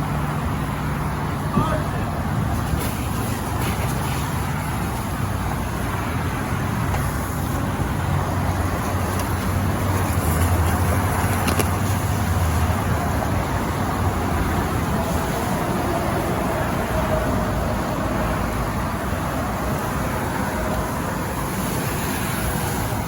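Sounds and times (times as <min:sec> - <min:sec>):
freeway traffic noise: 0:00.0 - 0:23.0
vehicle engine hum: 0:00.0 - 0:23.0.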